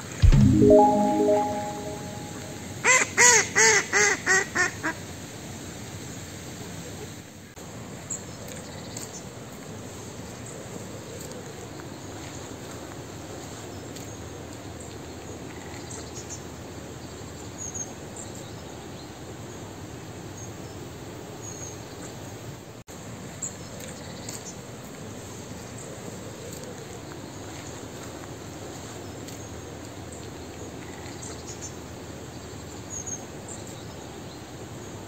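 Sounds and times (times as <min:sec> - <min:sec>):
outdoor background noise: 0:04.2 - 0:35.0.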